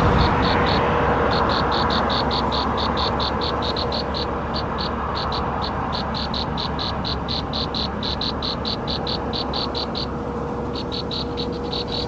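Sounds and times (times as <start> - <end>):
insect chirping in high pulses: 0.0 - 12.0
steady outdoor hiss: 0.0 - 12.0.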